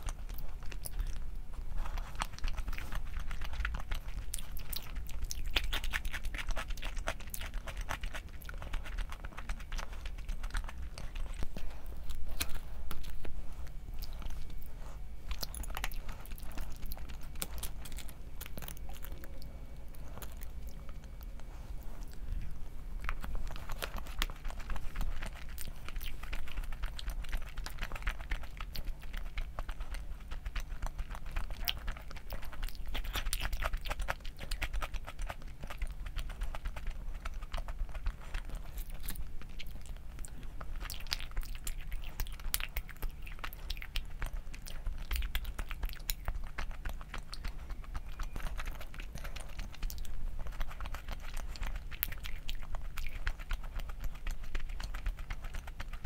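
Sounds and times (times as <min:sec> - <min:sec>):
low steady hum: 0:00.0 - 0:56.0
person chewing food: 0:00.0 - 0:56.0.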